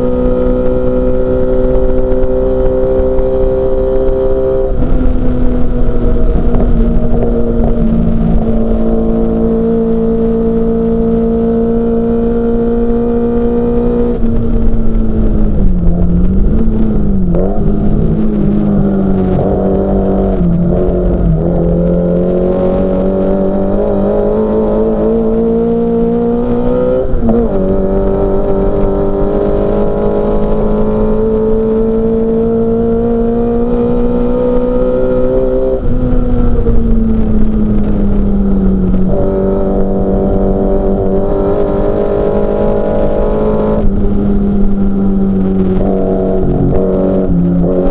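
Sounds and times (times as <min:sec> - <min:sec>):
racing car engine at high revs: 0:00.0 - 0:47.9.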